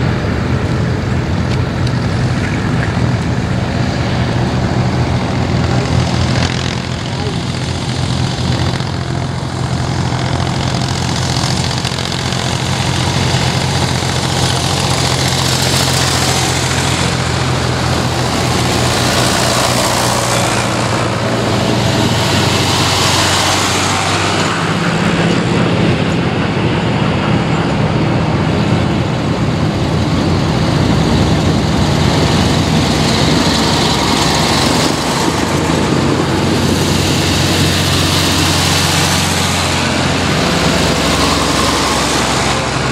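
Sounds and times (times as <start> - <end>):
tractor diesel engines passing: 0.0 - 42.9.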